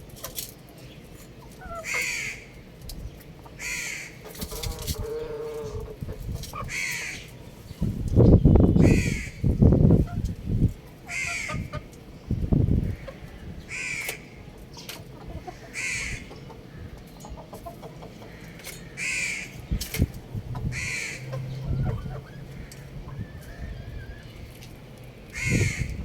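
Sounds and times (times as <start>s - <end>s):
steady background noise: 0.0s - 26.0s
harsh bird calls: 0.8s - 10.3s, 11.0s - 24.5s, 25.3s - 26.0s.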